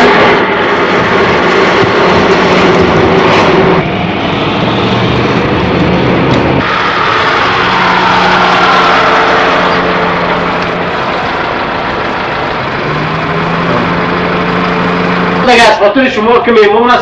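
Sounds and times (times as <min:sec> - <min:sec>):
car engine running: 0:00.0 - 0:16.6
road noise: 0:00.0 - 0:17.0.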